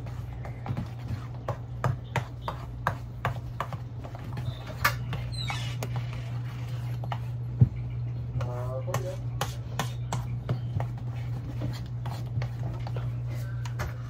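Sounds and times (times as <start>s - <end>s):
utensil scraping mixing bowl: 0.0s - 7.6s, 8.4s - 14.0s
steady low hum: 0.0s - 14.0s.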